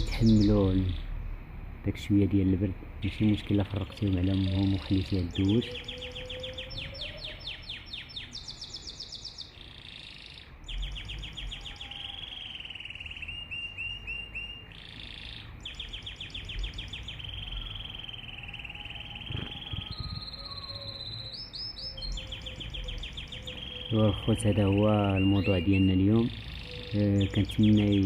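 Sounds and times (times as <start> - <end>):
canary singing: 0.0 - 1.7, 2.8 - 28.0.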